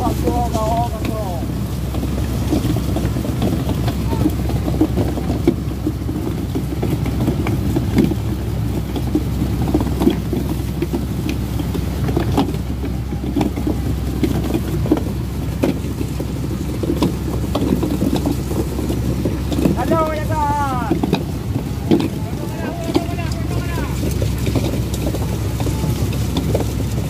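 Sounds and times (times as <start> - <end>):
boat engine running: 0.0 - 27.0
water rushing along hull: 0.0 - 27.0.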